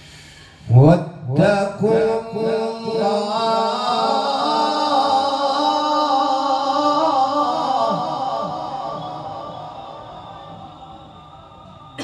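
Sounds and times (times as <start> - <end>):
man chanting melodically: 0.6 - 12.0.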